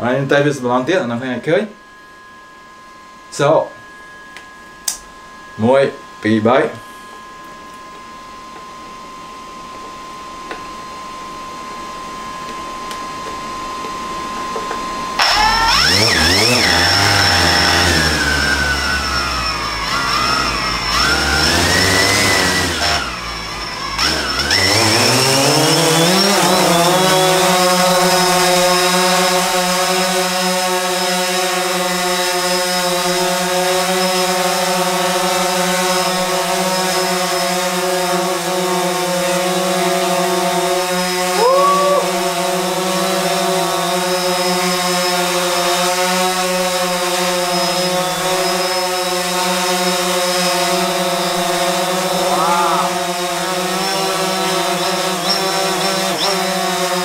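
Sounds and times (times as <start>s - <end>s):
drone propellers whining: 1.5s - 57.0s.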